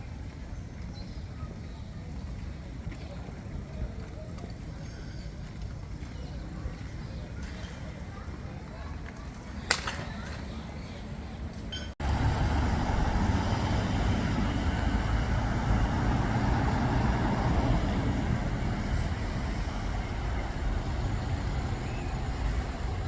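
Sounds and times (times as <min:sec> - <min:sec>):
road vehicles rumbling: 0:00.0 - 0:23.0.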